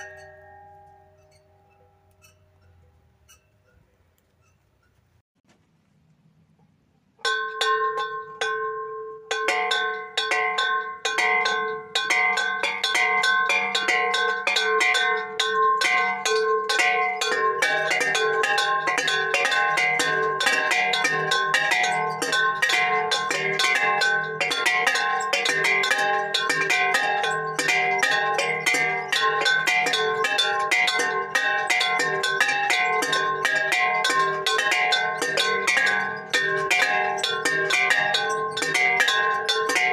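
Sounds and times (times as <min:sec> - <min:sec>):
metal bells clanging: 0:00.0 - 0:04.6, 0:07.2 - 0:39.9.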